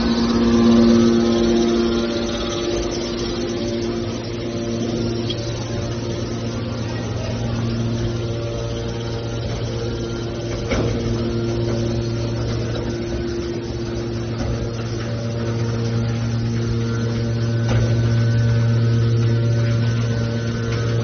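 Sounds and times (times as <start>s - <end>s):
hydraulic baler motor humming: 0.0s - 21.0s.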